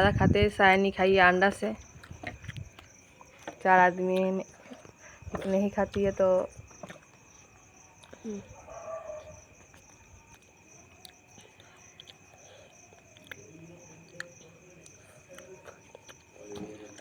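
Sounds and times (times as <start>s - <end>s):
insect trilling: 0.0s - 17.0s.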